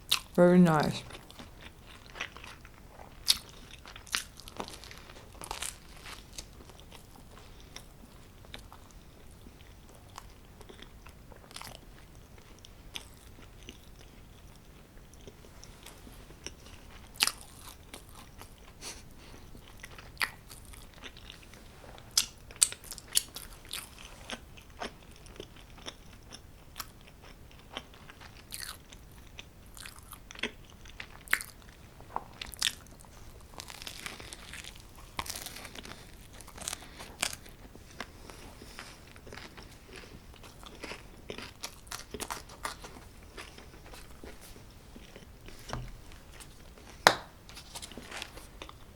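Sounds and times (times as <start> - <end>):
person chewing crunchy pizza: 0.0 - 48.9.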